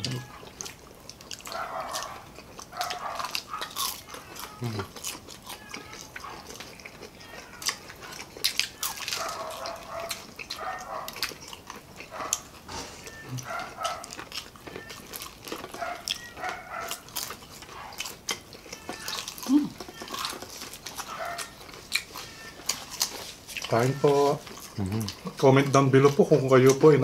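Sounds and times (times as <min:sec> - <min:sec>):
people chewing crunchy food: 0:00.0 - 0:27.0.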